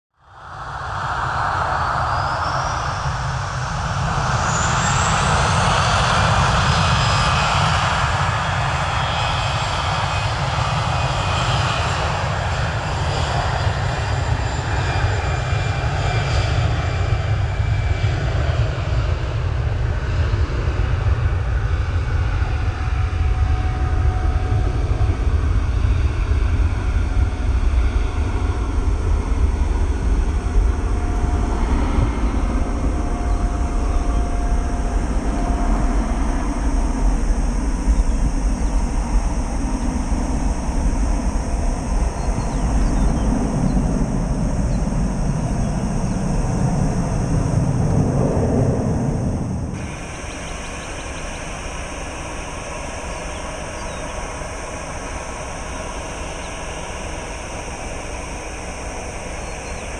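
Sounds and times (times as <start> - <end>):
jet engine whine: 0.2 - 59.9
deep jet rumble: 0.4 - 59.9.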